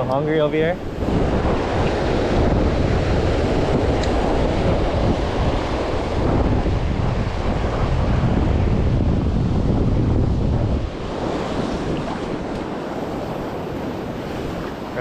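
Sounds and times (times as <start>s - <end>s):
wind buffeting microphone: 0.0s - 15.0s
surf breaking on rocks: 0.6s - 15.0s.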